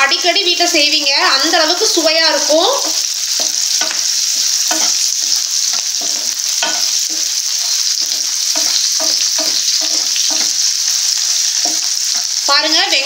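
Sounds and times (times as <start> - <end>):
garlic and shallots sizzling in oil: 0.0 - 13.0.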